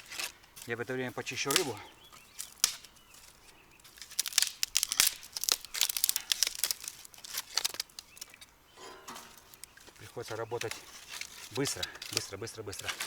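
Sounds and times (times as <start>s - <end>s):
paper crinkling and tearing: 0.0s - 8.5s, 9.2s - 13.0s
kindling snapping: 0.0s - 13.0s.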